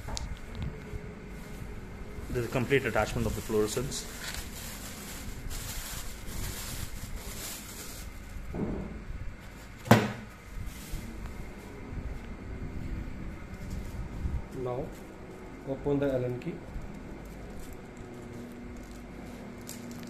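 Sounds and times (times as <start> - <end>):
plastic wrapping rustling: 0.0 - 8.5, 9.4 - 20.0.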